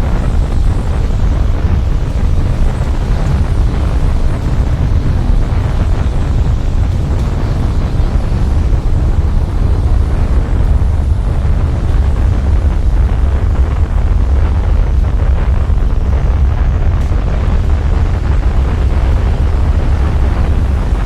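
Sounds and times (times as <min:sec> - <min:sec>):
heavy rushing wind: 0:00.0 - 0:21.0.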